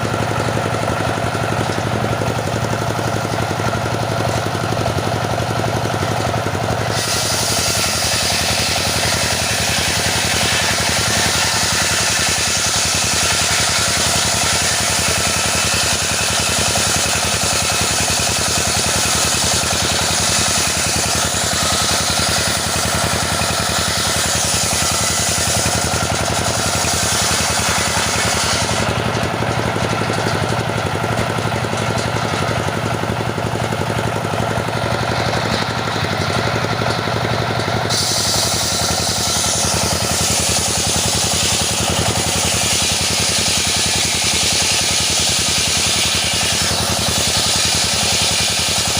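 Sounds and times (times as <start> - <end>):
petrol saw sawing wood: 0.0 - 48.9.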